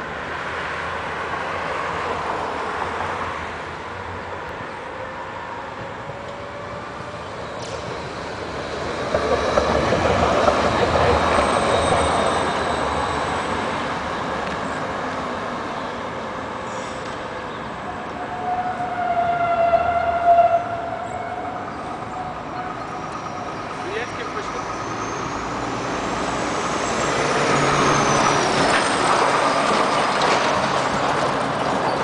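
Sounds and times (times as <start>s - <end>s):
tram wheels rolling on rails: 5.5s - 32.0s.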